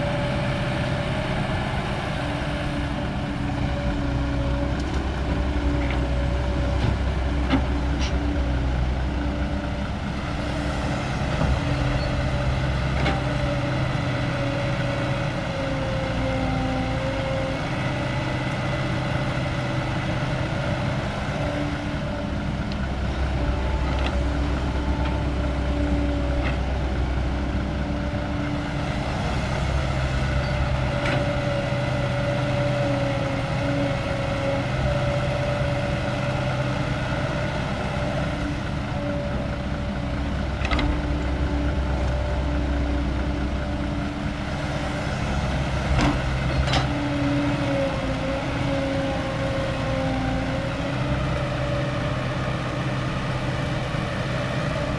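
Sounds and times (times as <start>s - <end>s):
excavator diesel engine rumble: 0.0s - 54.9s.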